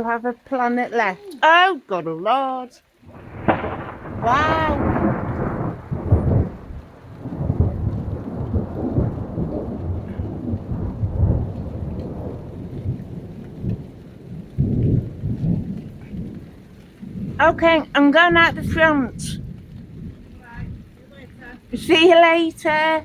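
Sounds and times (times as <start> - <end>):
heavy rain: 0.0 - 23.0
thunder rumbling: 3.0 - 23.0.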